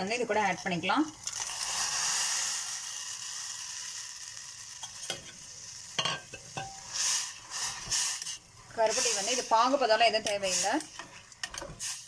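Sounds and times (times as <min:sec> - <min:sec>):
boiling water hissing in saucepan: 0:00.0 - 0:12.0.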